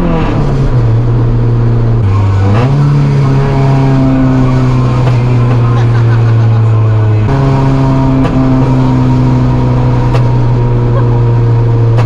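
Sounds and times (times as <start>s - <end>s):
race car engine from cabin: 0.0s - 12.0s.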